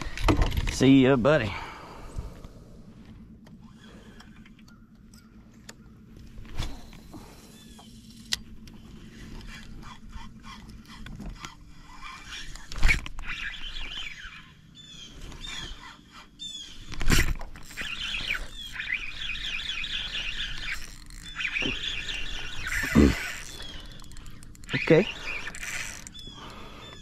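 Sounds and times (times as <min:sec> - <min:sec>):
low steady hum: 0:00.0 - 0:27.0
small birds chirping: 0:03.6 - 0:27.0.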